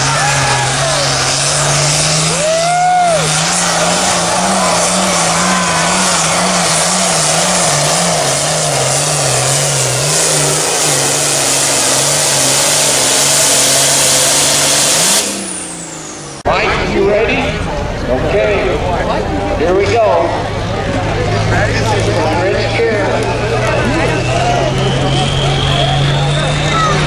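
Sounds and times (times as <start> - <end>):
tractor engine roaring: 0.0 - 27.0.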